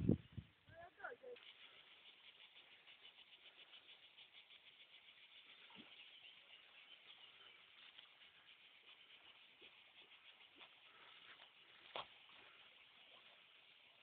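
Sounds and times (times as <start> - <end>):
insects chirring: 1.4 - 14.0.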